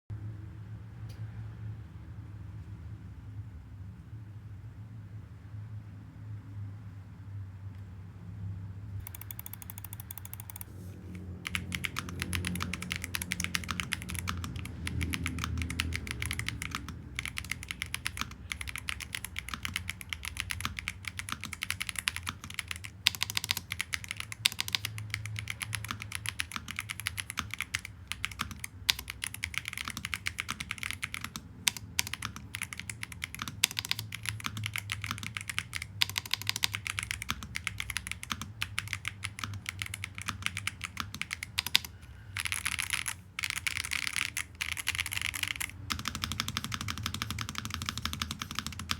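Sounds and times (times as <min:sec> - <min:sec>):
mechanical keyboard typing: 0:09.0 - 0:48.9.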